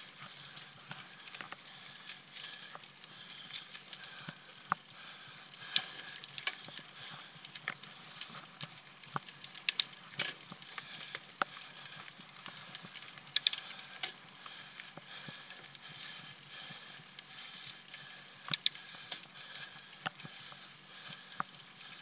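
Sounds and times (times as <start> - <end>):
bike clicks and rattles: 0.0 - 22.0
bike tyre noise on dirt: 0.0 - 22.0.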